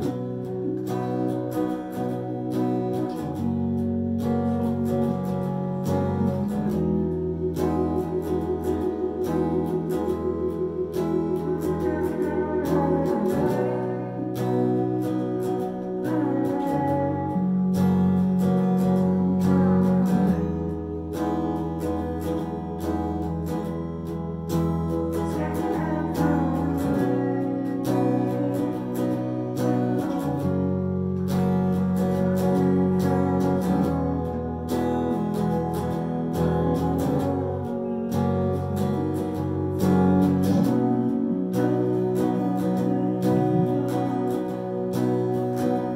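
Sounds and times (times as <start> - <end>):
low keyboard chords: 0.0 - 45.9
picked electric guitar notes: 0.0 - 45.9.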